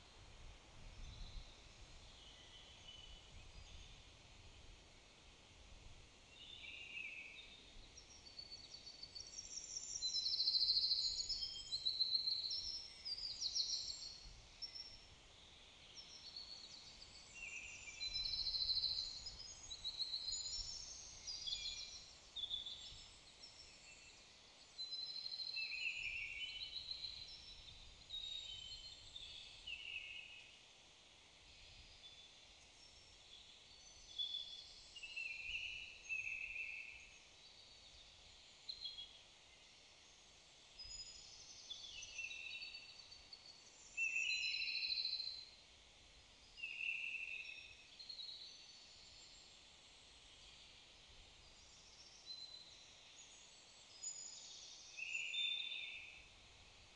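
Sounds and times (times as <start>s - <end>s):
songbirds singing: 0.0s - 5.0s, 6.0s - 30.7s, 31.4s - 56.9s.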